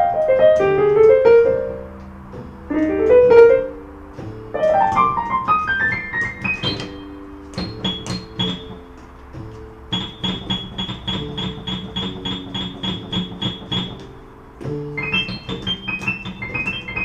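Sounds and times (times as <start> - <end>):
low sustained keyboard chords: 0.0 - 17.0
repeated high piano note: 0.0 - 17.0.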